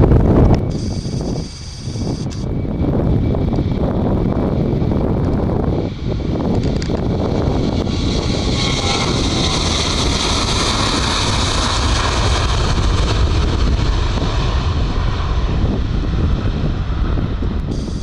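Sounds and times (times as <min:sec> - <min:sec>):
airliner engines running: 0:00.0 - 0:18.0
low wind rumble on microphone: 0:00.0 - 0:18.0.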